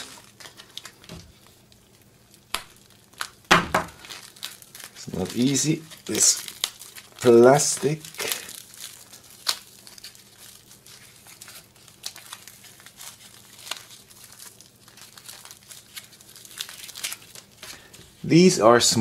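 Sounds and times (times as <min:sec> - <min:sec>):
plastic wrapping crinkling: 0:00.0 - 0:18.3.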